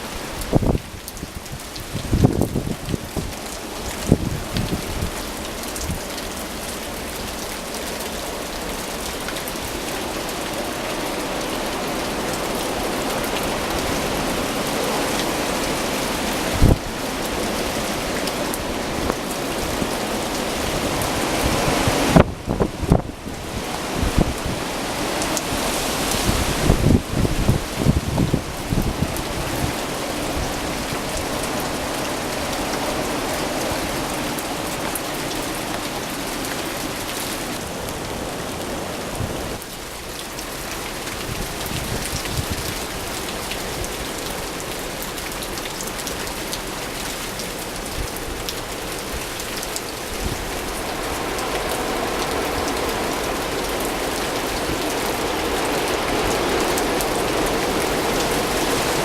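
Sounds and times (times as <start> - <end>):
rain spattering: 0.0 - 59.0.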